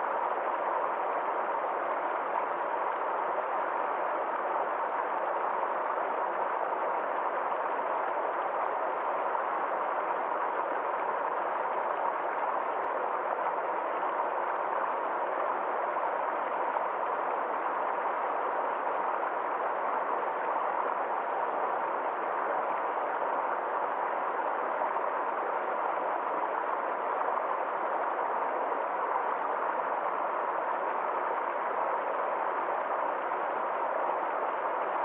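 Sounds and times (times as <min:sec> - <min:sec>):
stream water flowing: 0:00.0 - 0:35.0.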